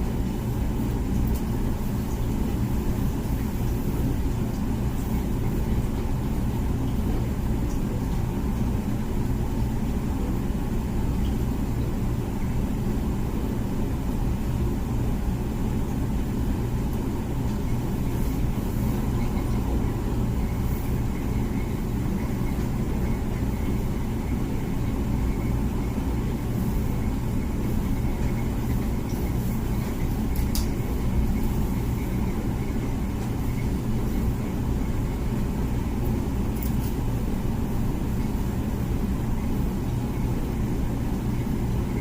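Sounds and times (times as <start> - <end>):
dishwasher pump humming: 0.0 - 42.0.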